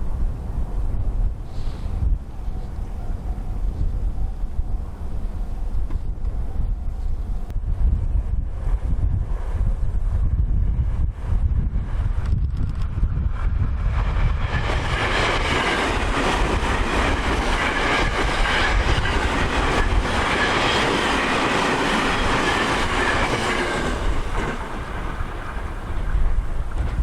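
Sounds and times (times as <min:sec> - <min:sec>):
electric train passing: 0:00.0 - 0:27.0
wind buffeting microphone: 0:00.0 - 0:27.0.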